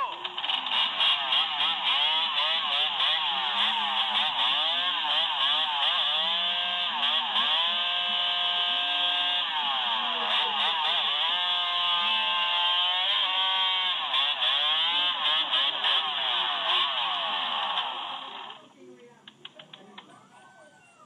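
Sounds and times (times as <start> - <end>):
two-stroke engine revving hard: 0.0 - 18.7.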